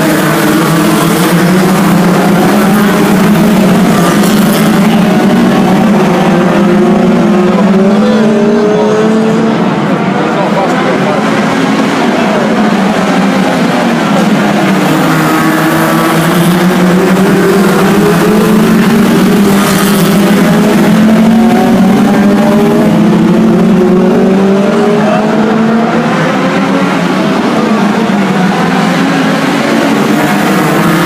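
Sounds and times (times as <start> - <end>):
racing car engines revving: 0.0 - 31.0.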